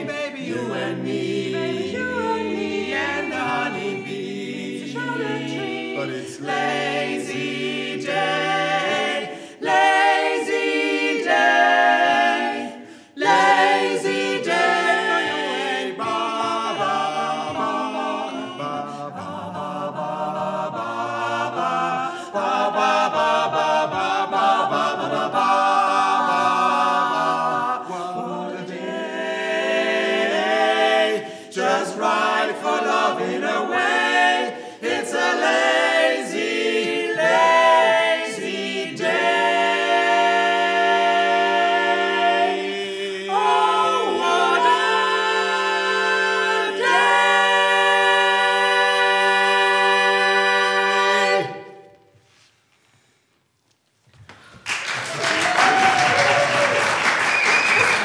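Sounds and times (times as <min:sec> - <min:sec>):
barbershop quartet singing a cappella: 0:00.0 - 0:52.1.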